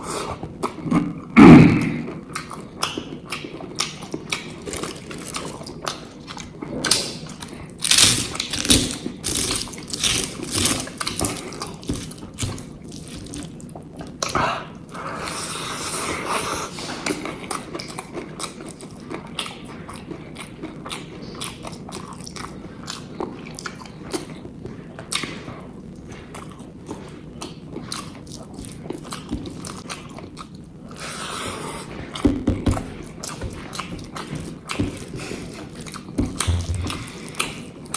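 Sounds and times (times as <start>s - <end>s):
person chewing with wet mouth sounds: 0.0s - 37.9s.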